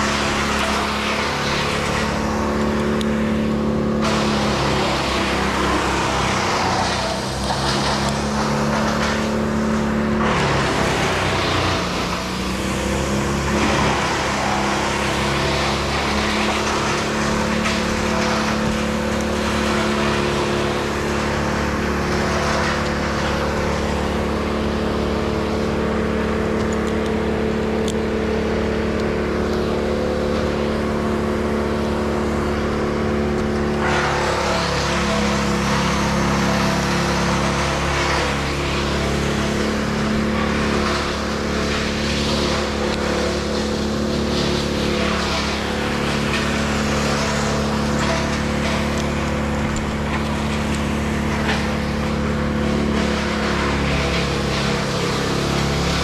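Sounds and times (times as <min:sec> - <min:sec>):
engine running at high speed: 0:00.0 - 0:56.0.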